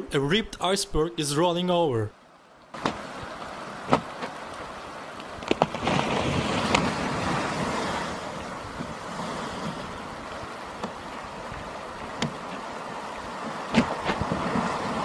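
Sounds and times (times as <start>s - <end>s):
wind: 0.0s - 15.0s
rushing water and ice: 1.2s - 15.0s.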